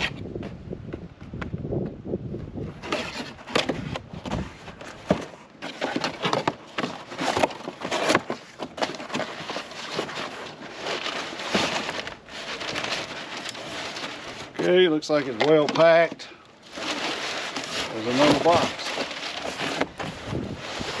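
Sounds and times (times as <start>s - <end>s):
cardboard scraping and rustling: 0.0s - 0.6s, 2.5s - 21.0s.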